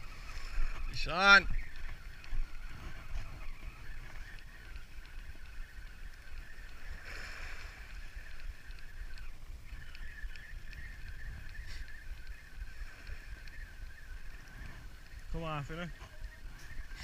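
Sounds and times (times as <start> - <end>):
fishing reel gears whirring: 0.0 - 17.0
wind rumble on microphone: 0.0 - 17.0.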